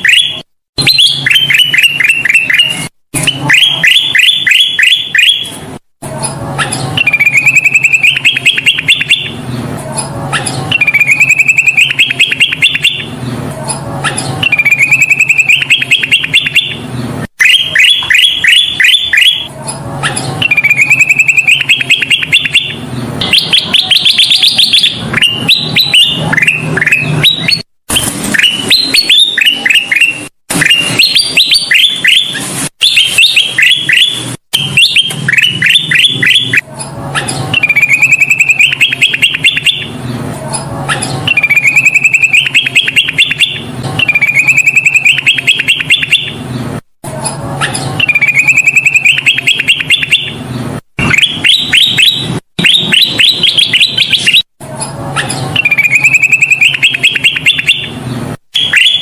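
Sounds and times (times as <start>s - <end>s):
bulbul singing: 0.0s - 46.7s, 47.3s - 59.0s.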